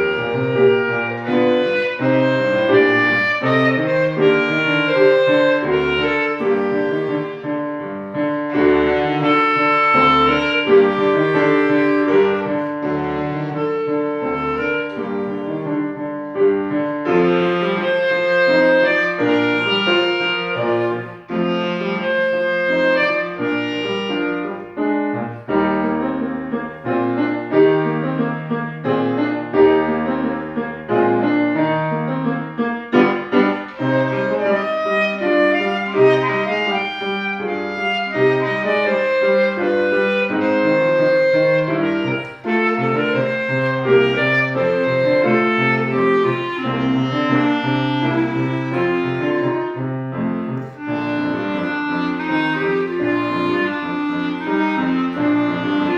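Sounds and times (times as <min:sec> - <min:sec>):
piano accompaniment: 0:00.0 - 0:55.9
woodwind solo melody: 0:00.0 - 0:55.9.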